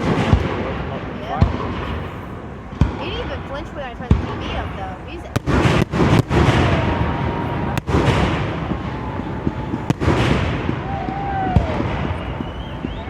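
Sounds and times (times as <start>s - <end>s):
fireworks bursting with bangs: 0.0s - 13.0s
fireworks crackling: 0.0s - 13.0s.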